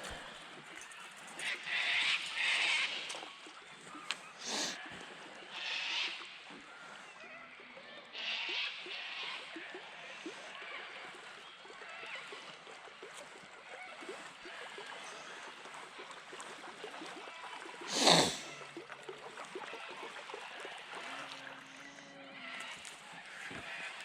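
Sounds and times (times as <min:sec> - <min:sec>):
water lapping against boat: 0:00.0 - 0:24.0.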